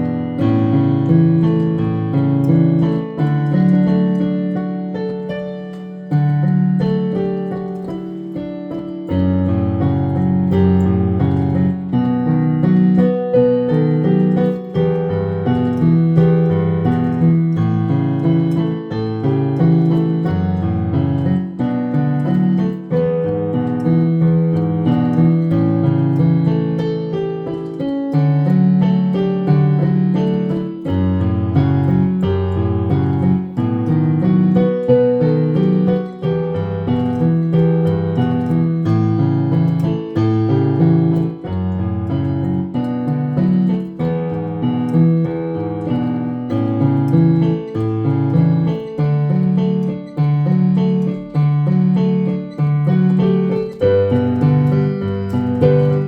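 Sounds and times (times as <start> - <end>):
electric piano chords: 0.0 - 56.0.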